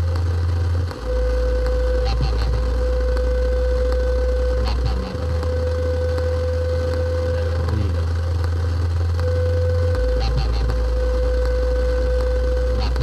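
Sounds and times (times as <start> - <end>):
loud low industrial hum: 0.0 - 13.0.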